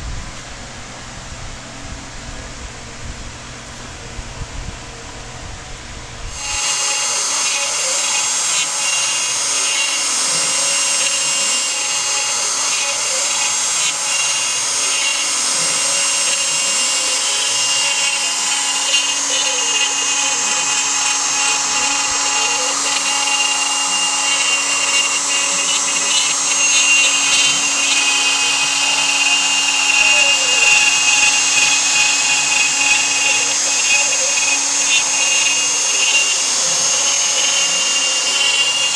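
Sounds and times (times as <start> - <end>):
router spindle whine: 0.0 - 38.9
axis motors rising and falling: 3.6 - 38.9.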